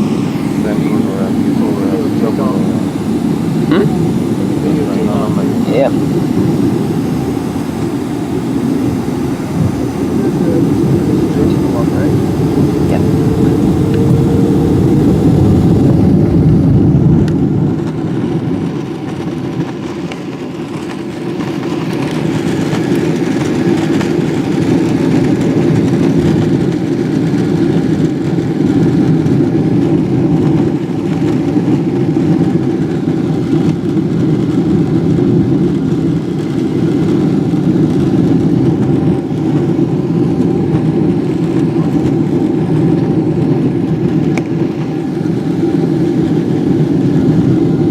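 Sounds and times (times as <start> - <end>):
jet engine rumble in cabin: 0.0 - 47.9.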